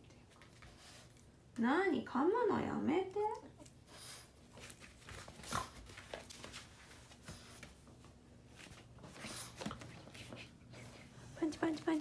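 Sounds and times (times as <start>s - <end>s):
puppy scuffling and pawing: 0.1s - 1.5s, 3.5s - 12.0s.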